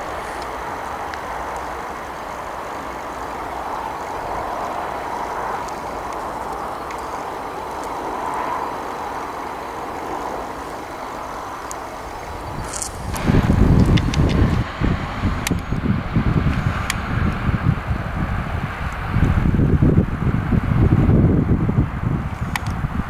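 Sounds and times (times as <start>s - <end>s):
distant train rushing: 0.0s - 23.0s.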